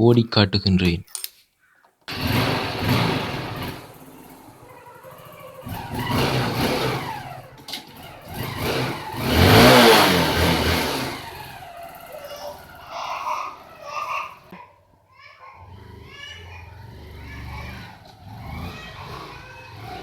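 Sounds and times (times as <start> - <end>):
motorcycle engine revving: 2.1 - 14.5, 15.5 - 20.0.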